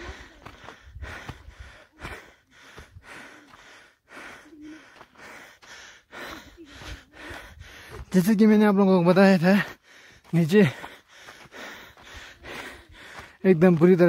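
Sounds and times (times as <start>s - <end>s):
person panting: 0.0s - 14.0s.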